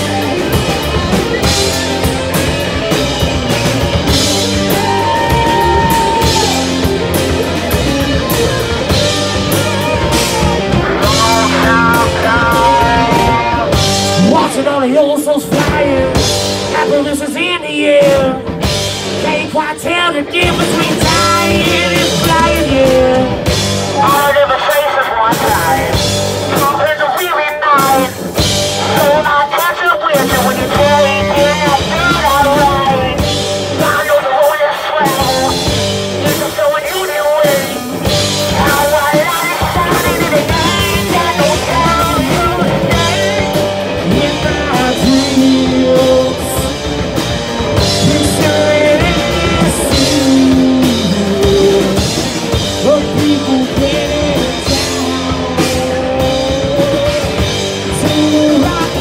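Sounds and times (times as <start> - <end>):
live rock band playing: 0.0 - 59.0
person singing: 4.4 - 7.2, 9.5 - 18.6, 19.2 - 47.0, 47.6 - 59.0.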